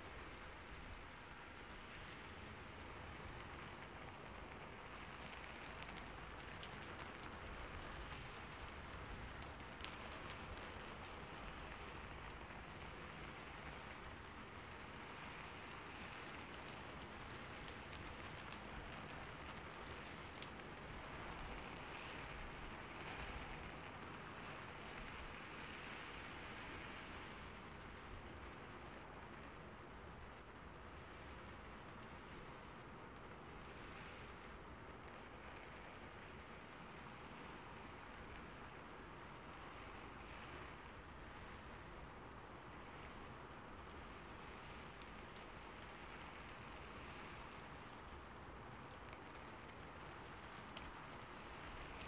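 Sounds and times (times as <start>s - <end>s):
rain patter on rooftop: 0.0s - 52.0s.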